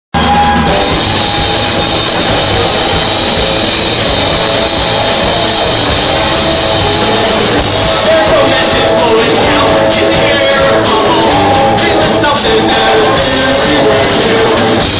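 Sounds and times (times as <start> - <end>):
loud instrumental rock music: 0.1 - 14.9.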